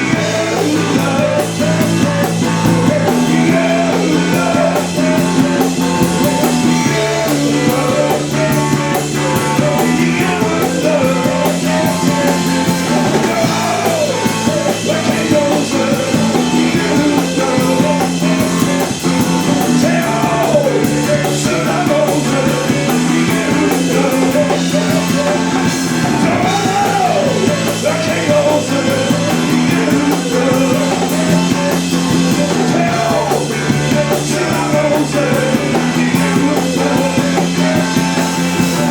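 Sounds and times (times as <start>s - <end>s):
person singing: 0.0s - 38.9s
rock band playing live: 0.0s - 38.9s.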